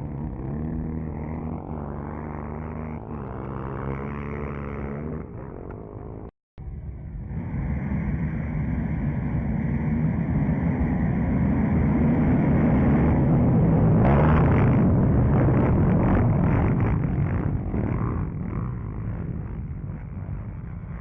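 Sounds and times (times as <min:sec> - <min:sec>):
motocross bike engines: 0:00.0 - 0:21.0
rough noisy sound: 0:00.0 - 0:21.0.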